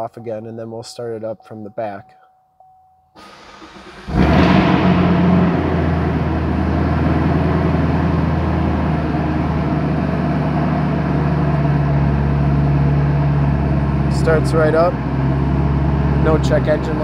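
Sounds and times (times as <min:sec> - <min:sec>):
car engine starting and idling: 0:03.2 - 0:17.0.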